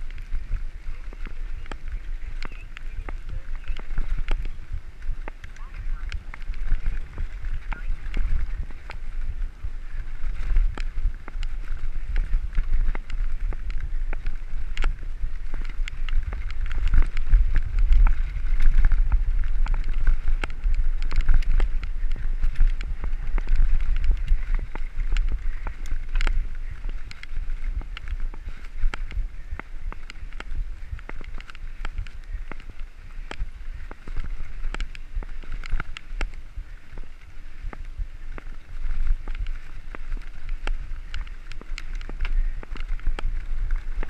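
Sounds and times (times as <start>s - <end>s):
bike rattling and clicking: 0.0s - 44.0s
wind rumble on microphone: 0.0s - 44.0s.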